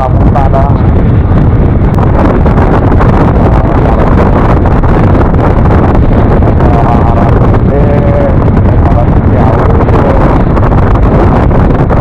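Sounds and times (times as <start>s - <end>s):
motorcycle running noise: 0.0s - 12.0s
wind buffeting microphone: 0.0s - 12.0s.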